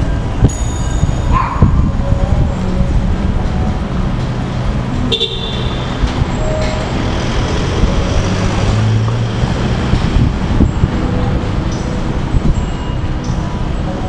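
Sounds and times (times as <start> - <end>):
high-pitched tone: 0.0 - 14.0
low traffic noise: 0.0 - 14.0.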